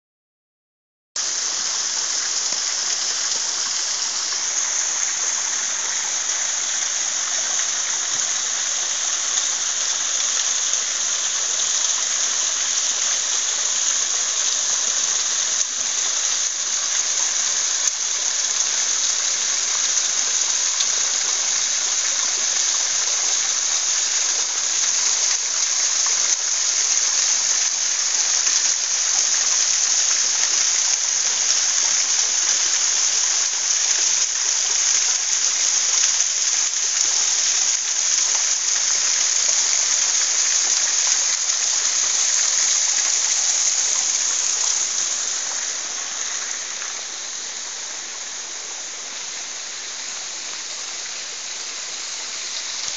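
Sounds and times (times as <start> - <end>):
water splashing down rock face: 1.2 - 52.9.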